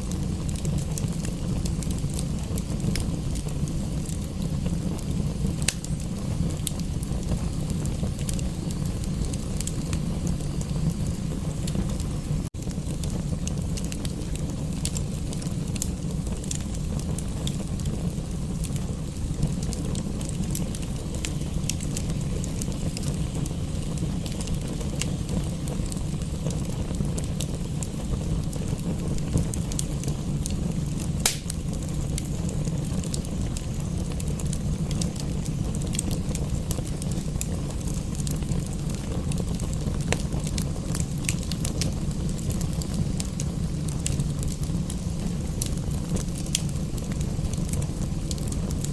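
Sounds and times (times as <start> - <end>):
sharp pops of fire: 0.0 - 48.9
wood fire crackling: 0.0 - 48.9.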